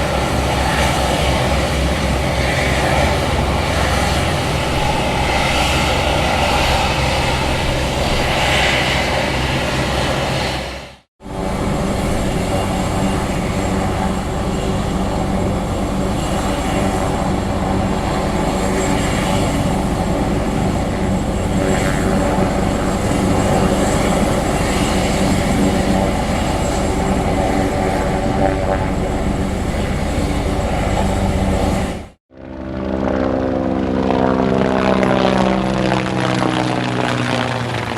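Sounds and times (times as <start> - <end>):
helicopter rotor chopping: 0.0 - 37.9.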